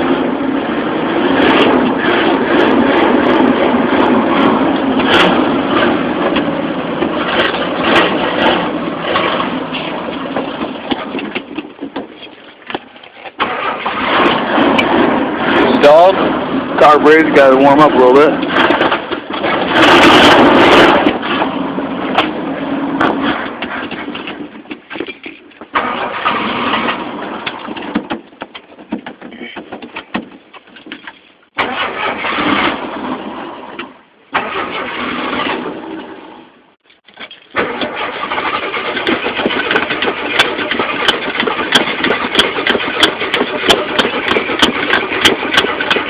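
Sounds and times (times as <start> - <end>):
car engine sputtering: 0.0 - 36.2, 37.5 - 46.0.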